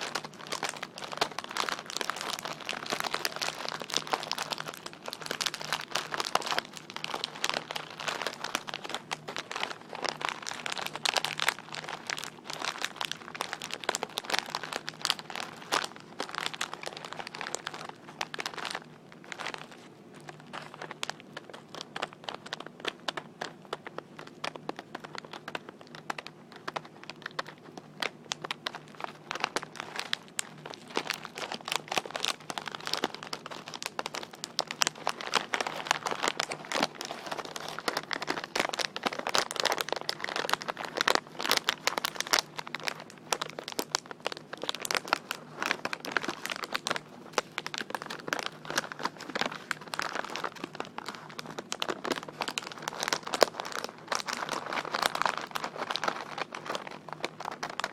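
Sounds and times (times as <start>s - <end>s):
packaging crackling: 0.0s - 57.9s.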